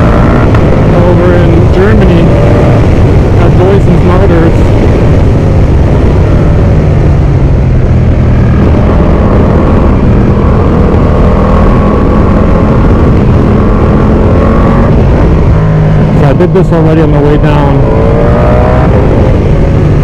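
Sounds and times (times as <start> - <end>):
motorcycle engine running: 0.0 - 20.0
wind on microphone: 0.0 - 20.0.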